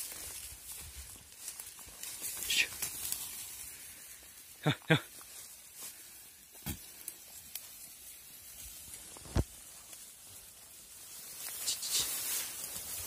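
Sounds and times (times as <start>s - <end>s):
grass rustling: 0.0s - 13.0s.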